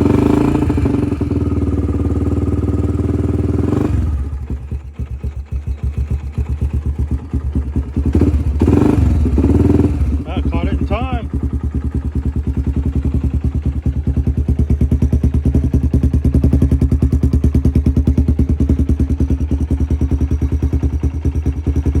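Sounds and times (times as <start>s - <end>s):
atv engine idling: 0.0s - 22.0s.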